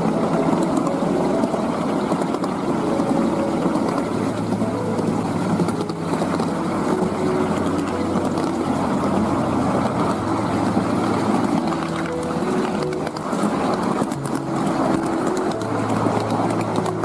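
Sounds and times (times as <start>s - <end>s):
miniature train wheels on rails: 0.0s - 17.0s.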